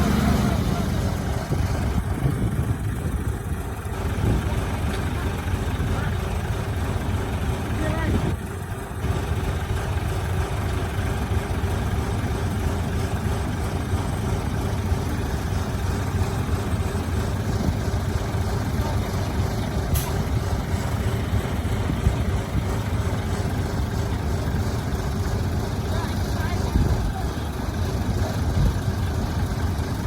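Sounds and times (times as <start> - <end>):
heavy diesel engine idling: 0.0 - 30.0.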